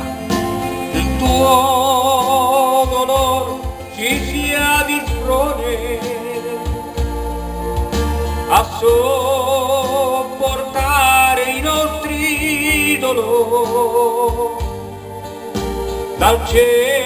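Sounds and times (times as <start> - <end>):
guitar and bass accompaniment: 0.0 - 17.0
person singing a hymn with vibrato: 0.0 - 17.0.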